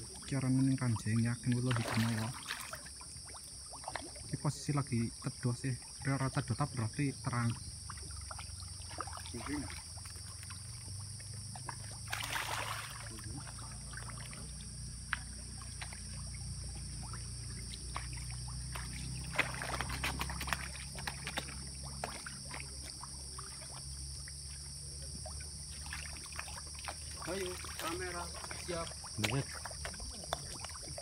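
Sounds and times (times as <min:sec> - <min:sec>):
high-pitched insect chorus: 0:00.0 - 0:31.0
small water splashes: 0:00.0 - 0:31.0.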